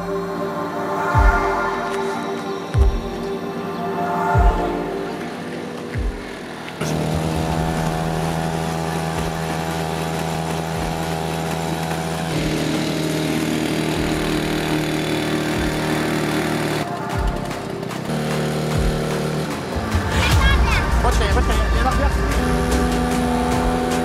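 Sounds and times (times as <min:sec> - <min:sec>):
small car engine running: 0:04.2 - 0:24.0.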